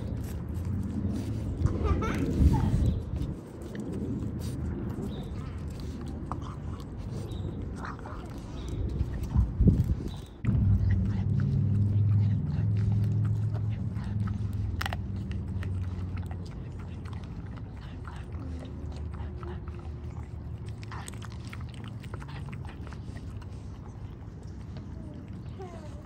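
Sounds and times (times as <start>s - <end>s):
dog chewing raw meat and bone: 0.0s - 26.0s
low hum: 0.0s - 26.0s.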